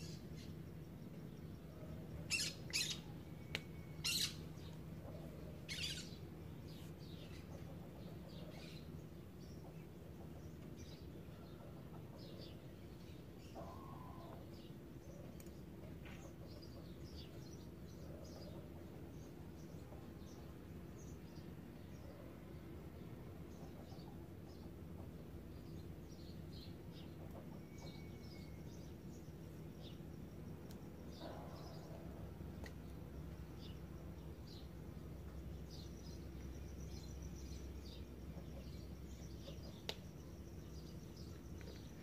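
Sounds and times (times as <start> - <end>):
small birds chirping: 0.0 - 42.0
steady low hum: 0.0 - 42.0.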